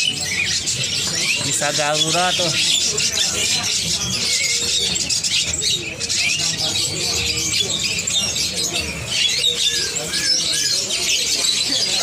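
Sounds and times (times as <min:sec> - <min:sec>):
faint voices: 0:00.0 - 0:12.0
songbirds chirping and twittering: 0:00.0 - 0:12.0.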